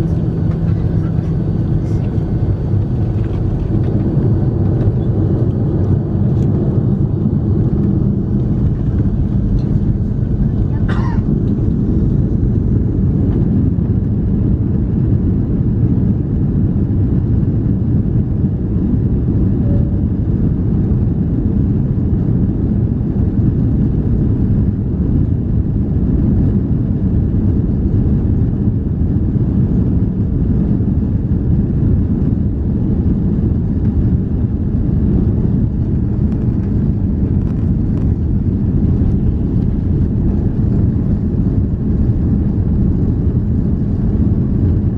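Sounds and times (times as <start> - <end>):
jet engines roaring inside cabin: 0.0 - 44.9.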